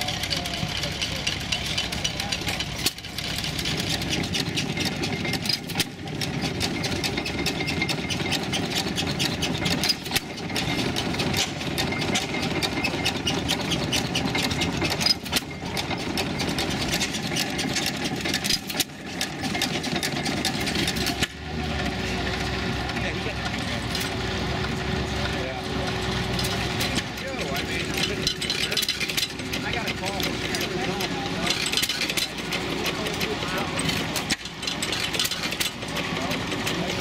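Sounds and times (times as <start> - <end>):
stationary gas engines running: 0.0 - 37.0.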